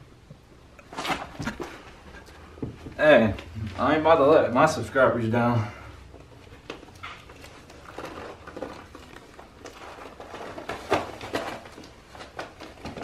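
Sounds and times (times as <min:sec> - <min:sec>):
duct tape crinkling and crackling: 0:00.2 - 0:05.4, 0:06.0 - 0:13.0.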